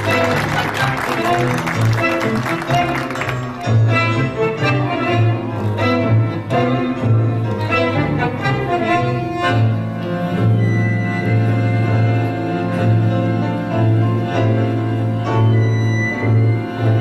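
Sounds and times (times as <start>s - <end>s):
tango music by orchestra: 0.0s - 17.0s.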